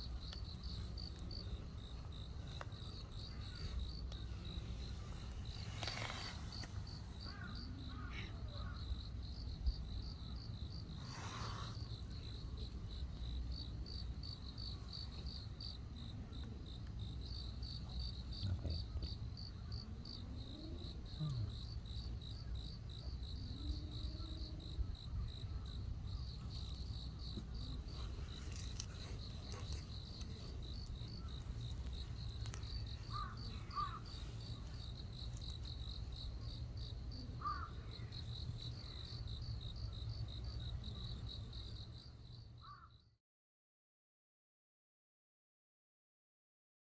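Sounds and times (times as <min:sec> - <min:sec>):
crickets chirping: 0:00.0 - 0:43.2.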